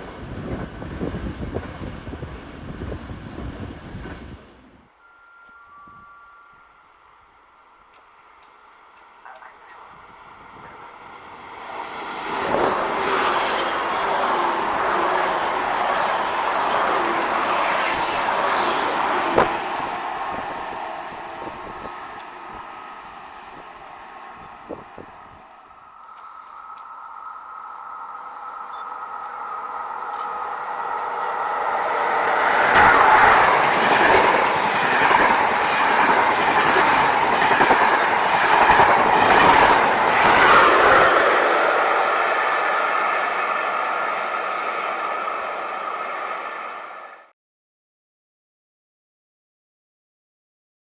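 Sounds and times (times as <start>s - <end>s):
train wheels on rails: 0.0s - 47.2s.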